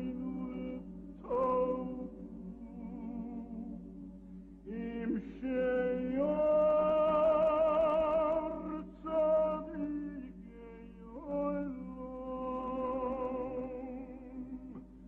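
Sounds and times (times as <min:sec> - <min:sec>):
person singing with vibrato: 0:00.0 - 0:03.8, 0:04.7 - 0:14.8.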